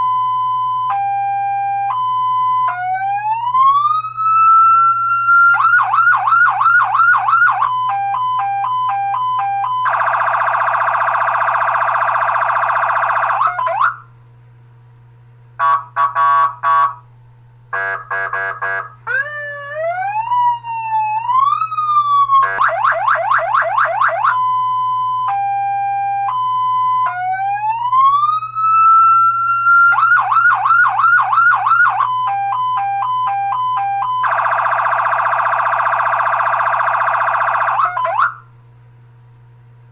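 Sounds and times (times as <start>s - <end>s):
fire truck siren: 0.0s - 14.1s, 15.6s - 17.0s, 17.8s - 38.5s.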